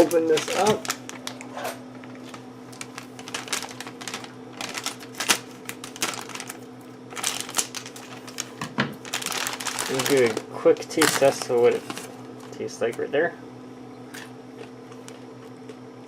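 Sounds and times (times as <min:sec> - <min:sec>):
packaging crinkling and clicking: 0:00.0 - 0:13.0
faint steady hum: 0:00.0 - 0:16.0.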